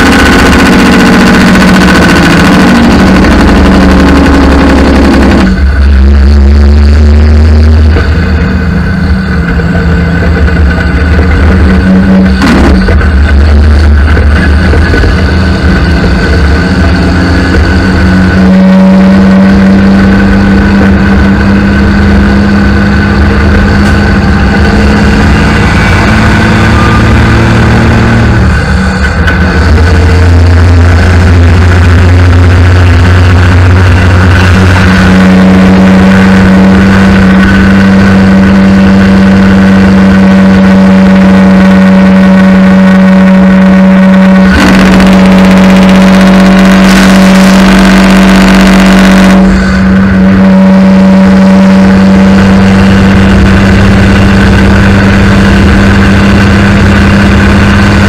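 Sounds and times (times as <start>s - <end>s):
diesel truck engine: 0.0s - 58.0s
road and wind noise: 0.0s - 58.0s.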